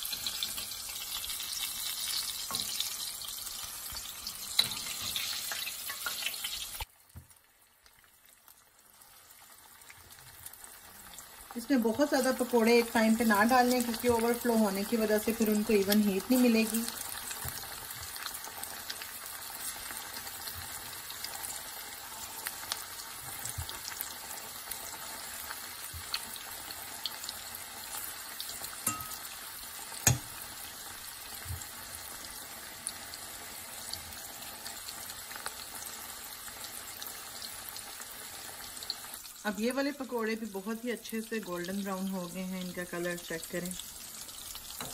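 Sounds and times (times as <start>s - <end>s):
deep-frying oil sizzling: 0.0s - 44.9s.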